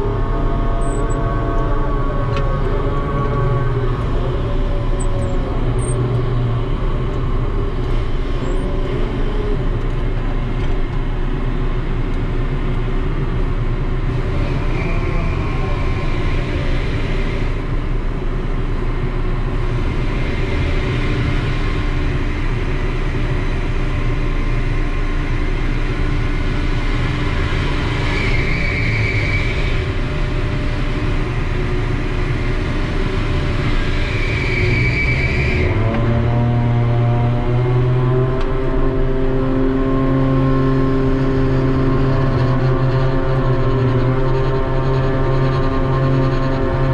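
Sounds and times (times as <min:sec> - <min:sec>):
crane machinery whine: 0:00.0 - 0:46.9.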